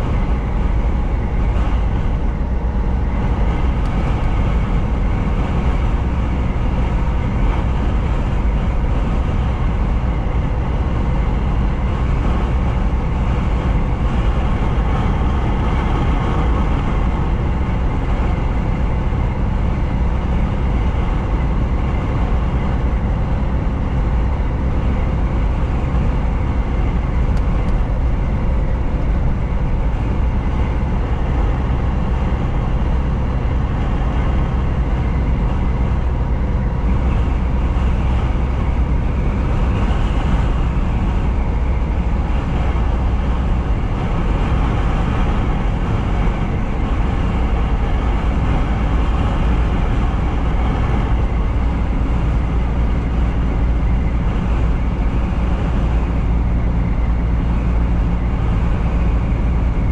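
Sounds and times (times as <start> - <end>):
diesel truck engine drone: 0.0 - 59.9
road and tyre noise: 0.0 - 59.9.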